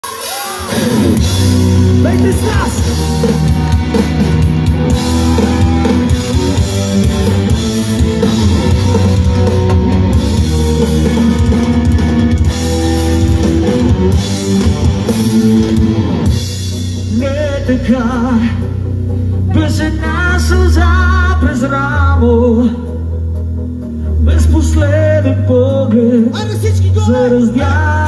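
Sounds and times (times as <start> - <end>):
drum kit: 0.0 - 28.0
electric guitars: 0.0 - 28.0.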